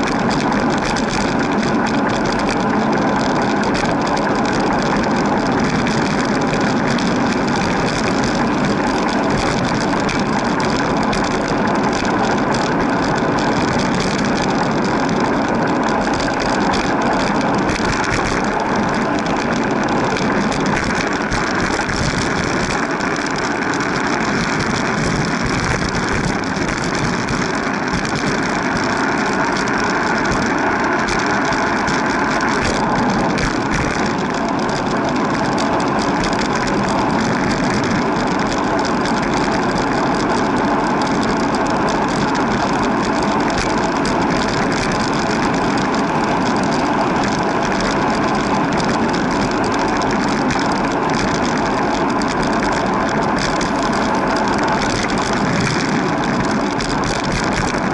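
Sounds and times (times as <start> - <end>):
road noise: 0.0 - 57.9.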